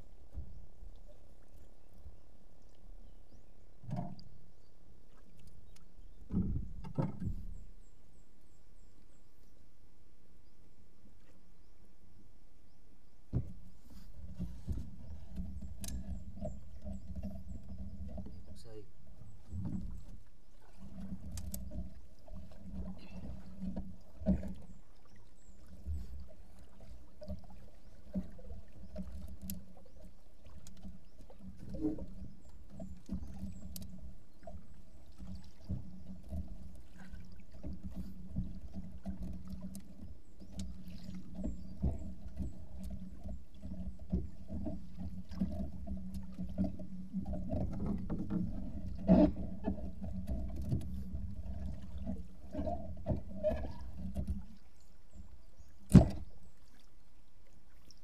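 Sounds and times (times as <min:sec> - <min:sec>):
boat engine humming: 0:00.0 - 0:56.5.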